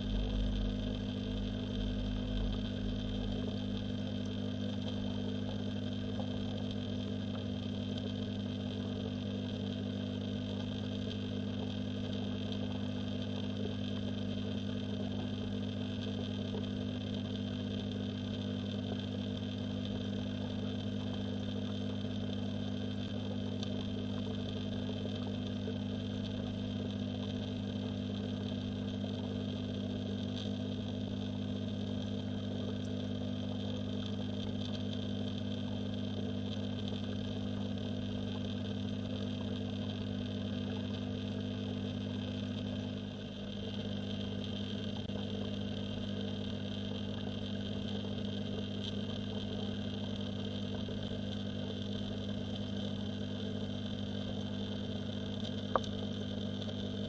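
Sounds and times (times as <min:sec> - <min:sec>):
electrical hum underwater: 0:00.0 - 0:57.0.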